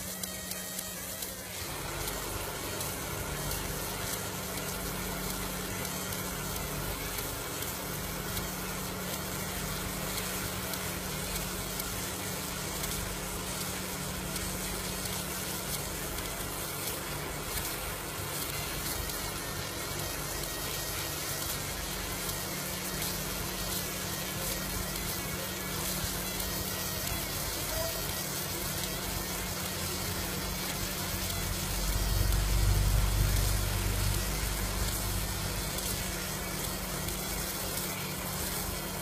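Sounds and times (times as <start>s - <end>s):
laser marking machine hissing: 0.0s - 39.0s.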